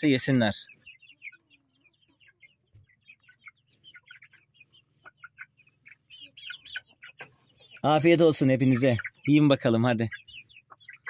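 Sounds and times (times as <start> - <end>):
chicks peeping: 0.0 - 11.0
chicks pecking taps: 2.0 - 11.0.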